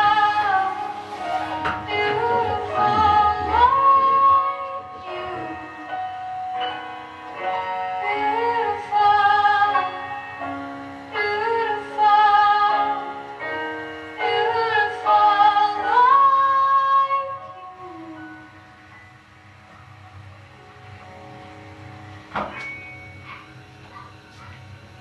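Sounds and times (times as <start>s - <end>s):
sustained chords: 0.0s - 24.0s.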